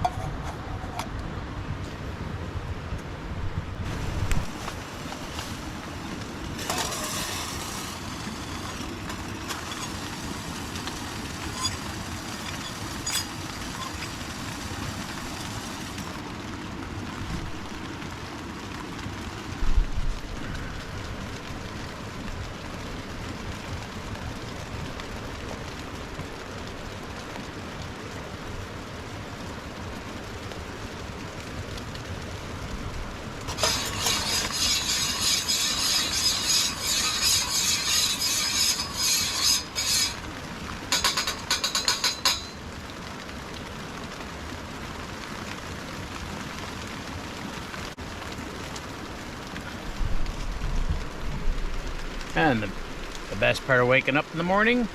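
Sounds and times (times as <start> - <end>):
creek water running: 0.0 - 54.9
crackly rustling: 3.8 - 54.0.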